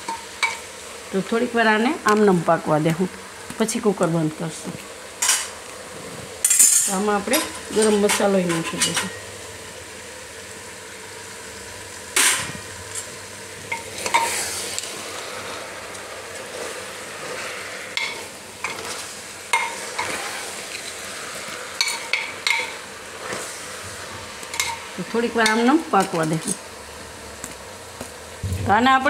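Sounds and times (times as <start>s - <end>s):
food sizzling in a pot: 0.0s - 29.0s.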